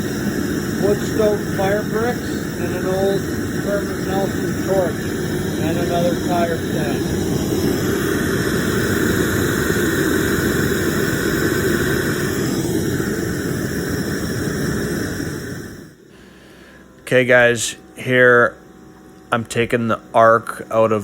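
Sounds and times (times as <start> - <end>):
forge burner rushing: 0.0 - 21.0.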